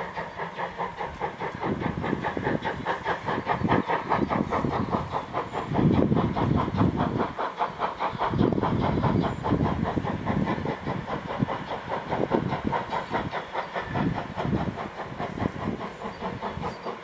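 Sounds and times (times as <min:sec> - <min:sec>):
steam hissing: 0:00.0 - 0:17.0
train wheels clattering: 0:00.0 - 0:17.0.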